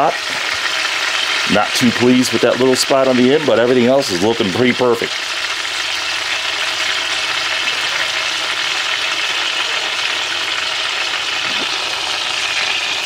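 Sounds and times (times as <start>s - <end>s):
meat sizzling in hot pot: 0.0s - 13.0s.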